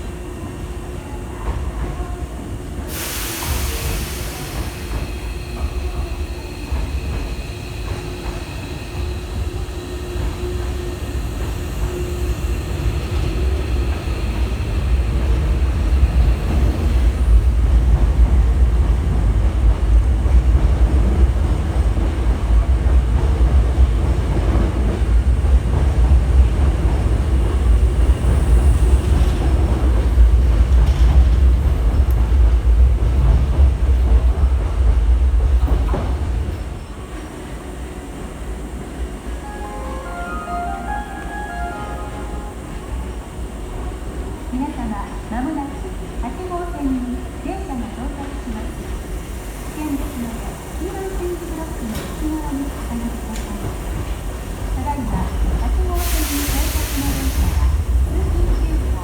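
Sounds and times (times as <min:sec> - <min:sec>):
electric train rumbling on rails: 0:00.0 - 0:59.0.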